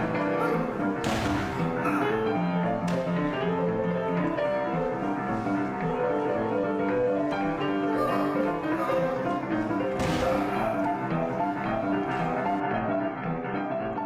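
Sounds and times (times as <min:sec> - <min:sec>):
boogie-woogie piano music: 0:00.0 - 0:14.0.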